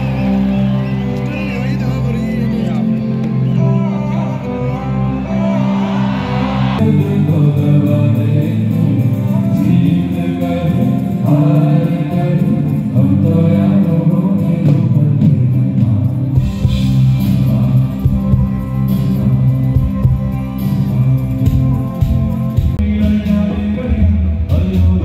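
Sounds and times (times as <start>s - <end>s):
live band with singing: 0.0s - 25.0s.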